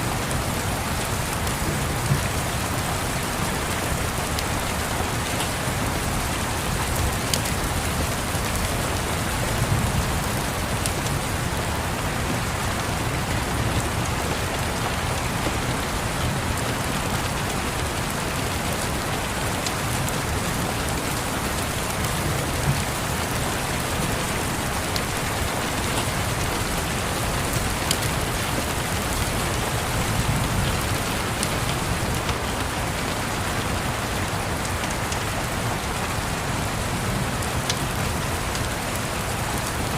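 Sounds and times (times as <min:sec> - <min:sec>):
rain tapping: 0:00.1 - 0:39.9.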